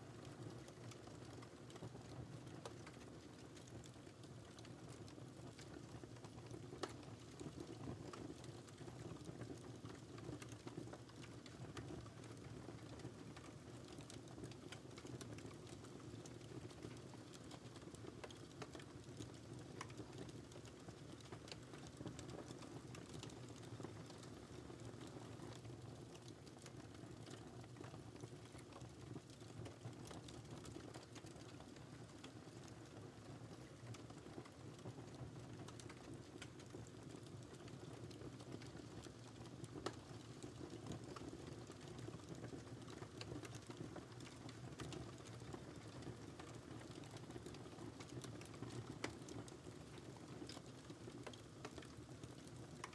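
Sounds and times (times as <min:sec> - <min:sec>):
fire crackles and pops: 0:00.0 - 0:52.9.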